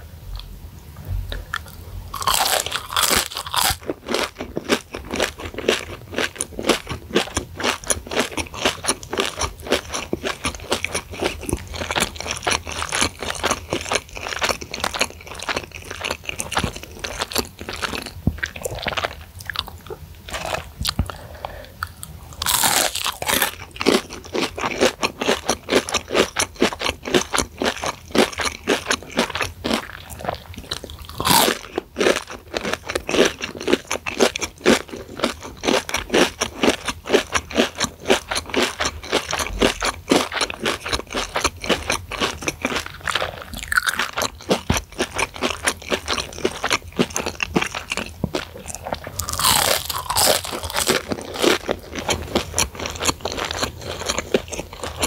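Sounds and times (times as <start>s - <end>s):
crunching and chewing fried food: 1.3s - 55.0s.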